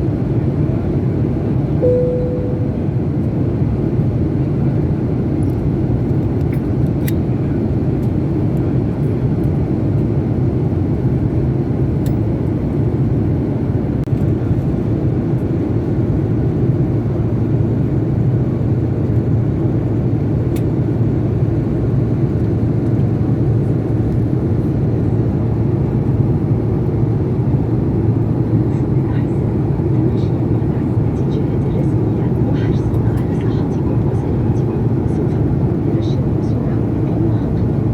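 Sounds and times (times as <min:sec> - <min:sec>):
airplane cabin drone: 0:00.0 - 0:37.9.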